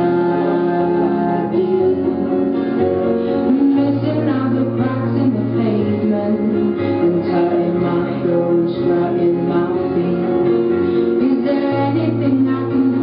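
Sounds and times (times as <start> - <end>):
bass line: 0.0 - 13.0
person singing: 0.0 - 13.0
sustained instrumental chords: 0.0 - 13.0.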